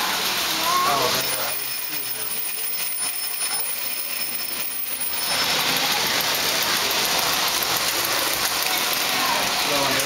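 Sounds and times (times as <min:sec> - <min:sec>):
model train whirring on track: 0:00.0 - 0:10.0.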